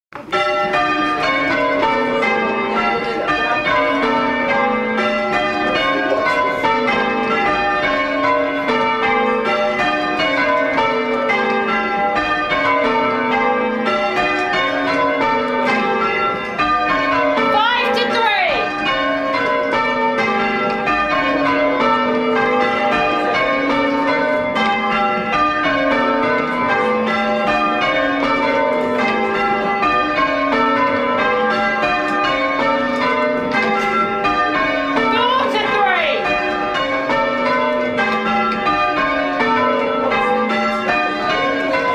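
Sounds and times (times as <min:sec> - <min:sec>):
church bells ringing: 0:00.1 - 0:41.9.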